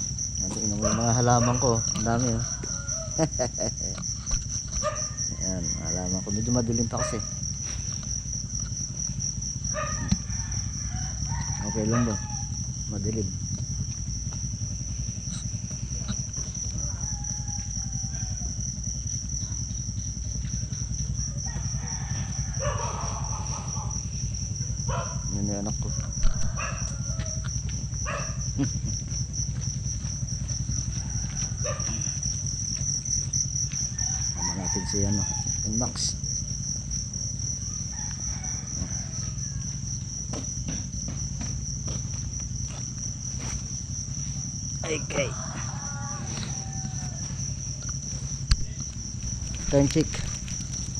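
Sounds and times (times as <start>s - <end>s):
crickets chirping: 0.0s - 50.9s
low steady rumble: 0.0s - 50.9s.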